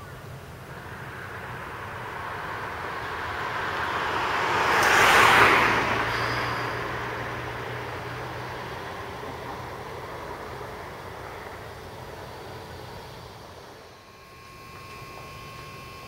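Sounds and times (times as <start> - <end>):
vehicle passing: 0.0 - 14.4
low hum: 0.0 - 16.0.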